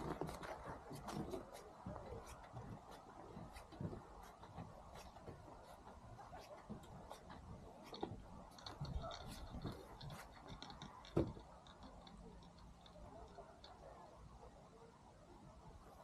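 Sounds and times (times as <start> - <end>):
faint clicks and taps: 0.0 - 14.4.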